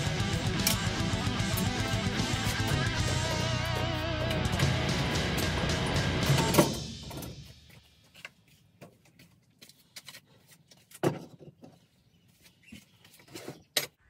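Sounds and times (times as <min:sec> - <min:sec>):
tools and gear clattering: 0:00.1 - 0:11.8.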